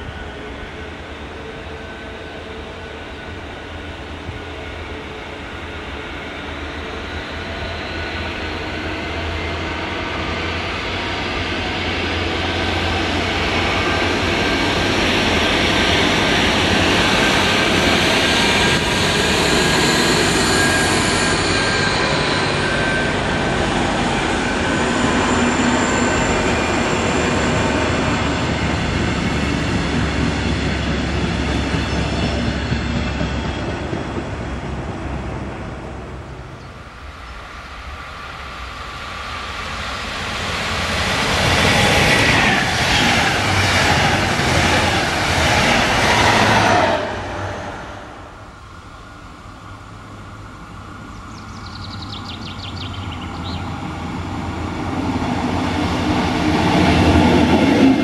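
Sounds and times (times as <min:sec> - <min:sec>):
diesel locomotive engine: 0:00.0 - 0:58.0
coaches rolling on rails: 0:06.7 - 0:58.0.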